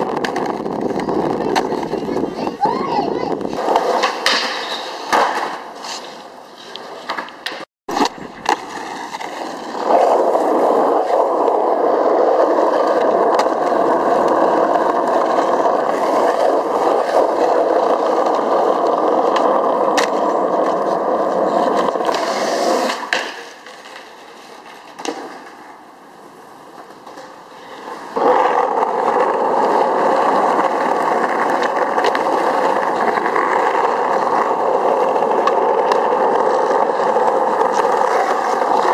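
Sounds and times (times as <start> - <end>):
skateboard clacks popping and landing: 0.0 - 2.4, 3.4 - 5.8, 6.8 - 11.6, 12.3 - 25.8, 28.1 - 38.9
skateboard wheels rolling on concrete: 0.0 - 38.9.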